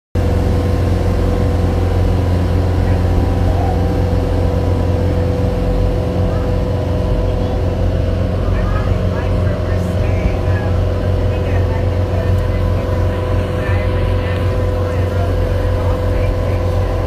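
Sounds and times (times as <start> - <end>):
boat engine droning: 0.2 - 17.0.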